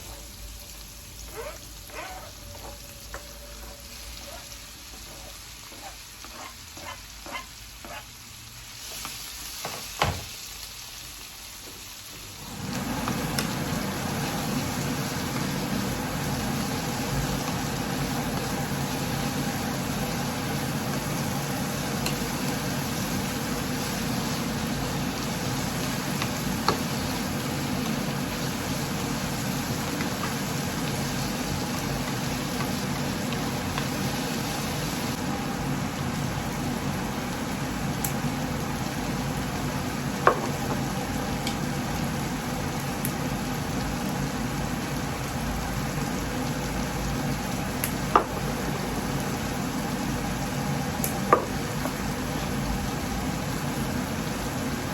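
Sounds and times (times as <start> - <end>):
eggs sizzling in a pan: 0.0 - 54.9.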